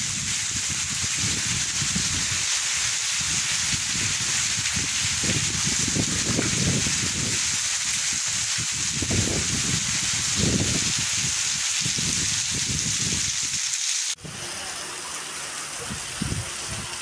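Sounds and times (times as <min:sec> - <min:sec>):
wind rumble on microphone: 0:00.0 - 0:13.6, 0:15.8 - 0:17.0
rain falling on wet ground: 0:00.0 - 0:14.2
heavy rain pouring: 0:00.0 - 0:17.0.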